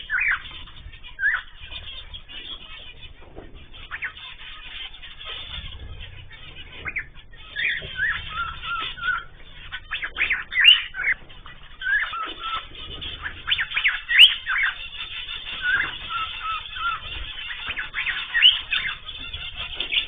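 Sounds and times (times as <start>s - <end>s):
cage birds chirping: 0.0s - 20.0s.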